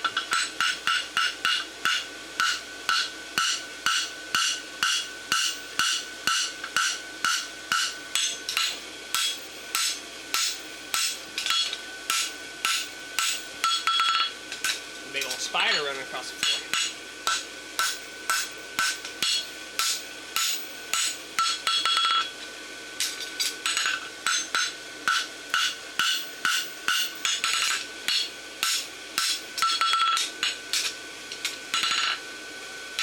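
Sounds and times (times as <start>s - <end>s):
hammer ringing on steel anvil: 0.3s - 14.3s, 15.2s - 22.3s, 23.6s - 30.8s, 31.7s - 32.2s.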